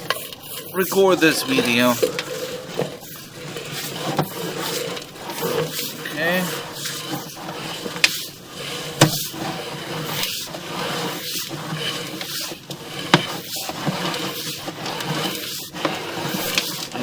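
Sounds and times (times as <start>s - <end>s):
push rod scraping rattle: 0.0s - 17.0s.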